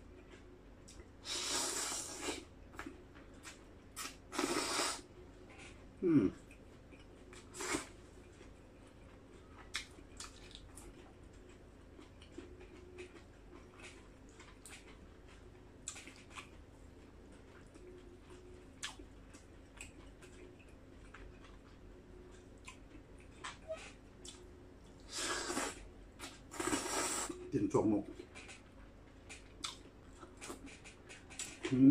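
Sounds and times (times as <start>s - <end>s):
faint steady hum: 0.0s - 31.9s
man chewing food: 0.0s - 31.9s.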